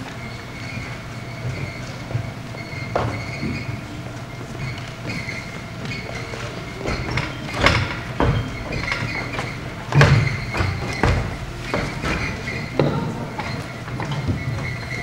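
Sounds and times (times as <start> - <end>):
footsteps on wooden risers: 0.0 - 15.0
steady low hum: 0.0 - 15.0.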